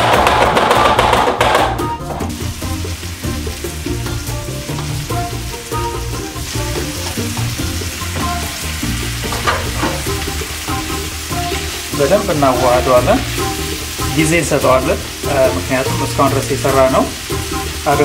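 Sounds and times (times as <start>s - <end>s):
background music: 0.0s - 18.0s
beans and meat sizzling in pan: 1.3s - 18.0s.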